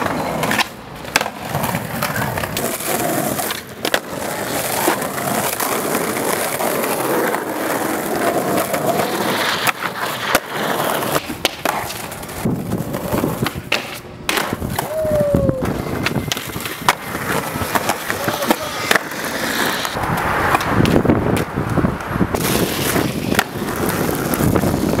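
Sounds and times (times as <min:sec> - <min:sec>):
skateboard slapping down: 0:00.0 - 0:25.0
skateboard wheels rolling on asphalt: 0:00.0 - 0:25.0.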